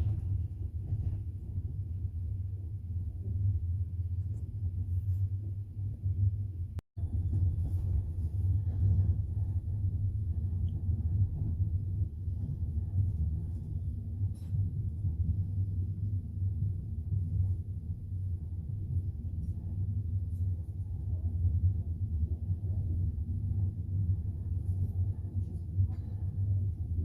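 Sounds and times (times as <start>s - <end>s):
train rumbling inside carriage: 0.0s - 5.2s, 5.9s - 27.0s.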